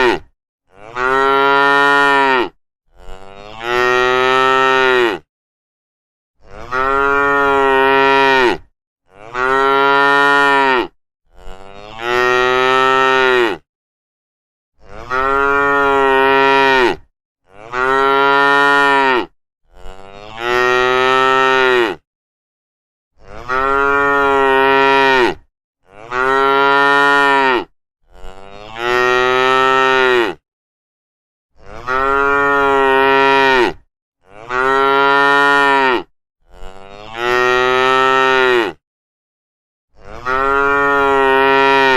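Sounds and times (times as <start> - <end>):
cattle mooing: 0.0 - 5.3, 6.5 - 13.6, 14.8 - 22.0, 23.3 - 30.4, 31.6 - 38.8, 40.0 - 41.9.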